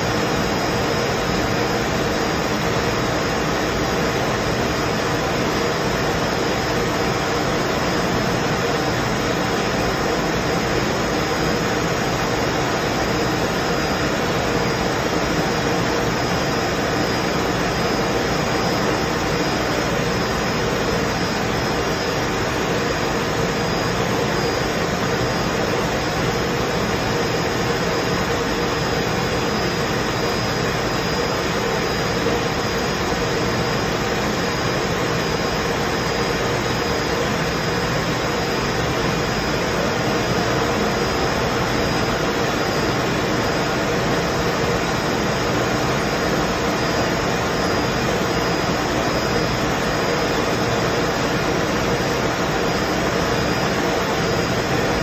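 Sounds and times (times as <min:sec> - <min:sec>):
machine hums: 0:00.0 - 0:55.0.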